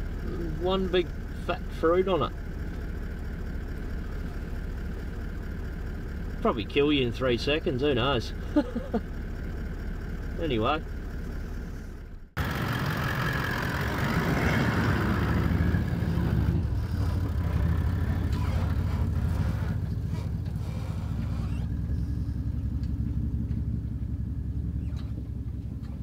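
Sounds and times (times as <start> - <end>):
diesel engine running: 0.0 - 26.0
tyres on dirt track: 0.0 - 26.0.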